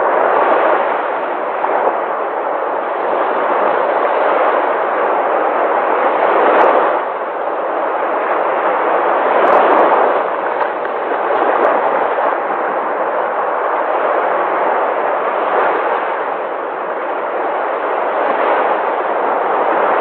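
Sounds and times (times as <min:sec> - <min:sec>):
sea waves breaking: 0:00.0 - 0:20.0.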